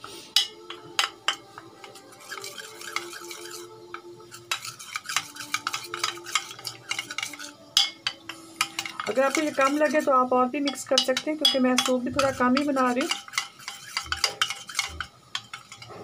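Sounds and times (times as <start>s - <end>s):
metal spoon scraping steel bowl: 0.3s - 16.0s.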